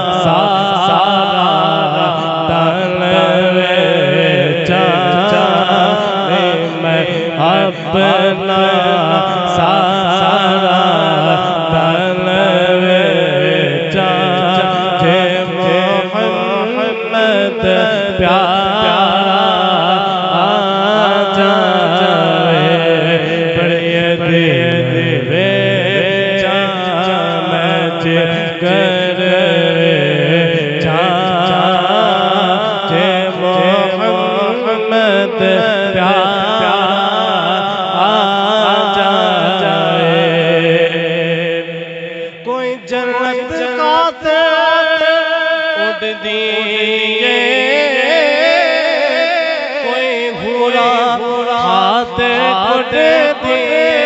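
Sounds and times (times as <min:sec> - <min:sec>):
man singing into a microphone: 0:00.0 - 0:54.0.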